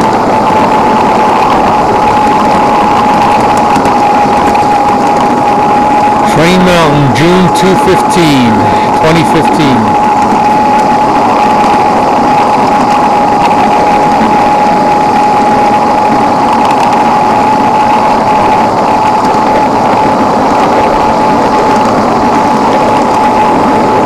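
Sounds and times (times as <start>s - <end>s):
constant electric whine: 0.0s - 24.0s
model locomotive running on rails: 0.0s - 24.0s.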